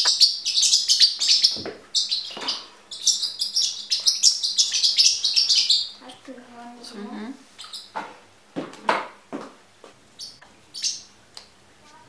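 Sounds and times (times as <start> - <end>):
songbird chirping and trilling: 0.0 - 8.1, 10.1 - 12.0.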